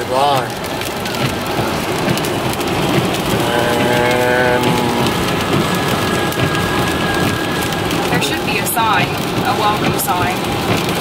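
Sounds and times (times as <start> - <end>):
rain on a car: 0.0 - 11.0
wet-road tyre noise: 0.0 - 11.0.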